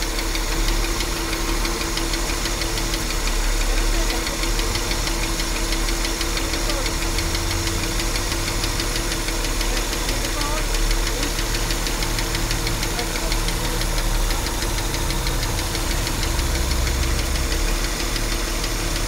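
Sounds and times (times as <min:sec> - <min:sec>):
engine humming: 0:00.0 - 0:19.0
fast even engine ticking: 0:00.0 - 0:19.0.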